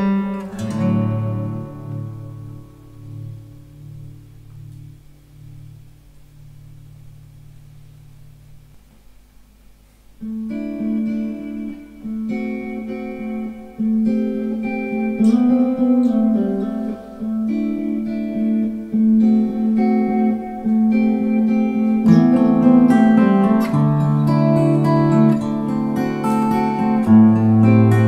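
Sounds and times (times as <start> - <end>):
electric and acoustic guitars: 0.0 - 8.4, 10.2 - 28.0
strummed guitar: 0.0 - 9.1, 10.2 - 28.0.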